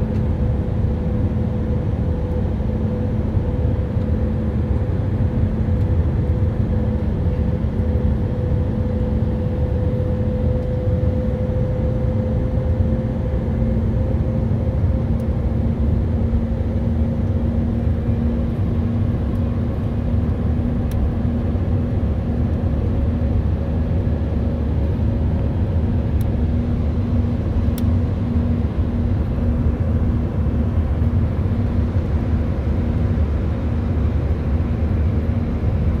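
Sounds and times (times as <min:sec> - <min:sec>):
jet engine cabin rumble: 0:00.0 - 0:36.0.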